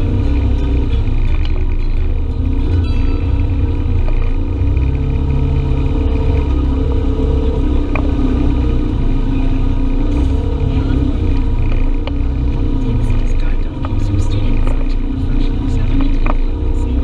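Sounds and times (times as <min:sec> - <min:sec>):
utility vehicle engine rumbling: 0:00.0 - 0:17.0.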